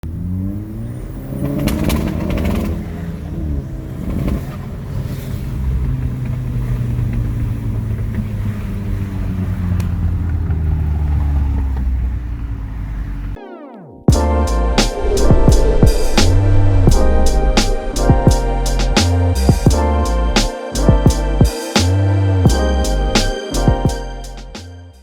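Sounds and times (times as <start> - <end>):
car engine revving: 0.0 - 13.4, 14.5 - 21.5.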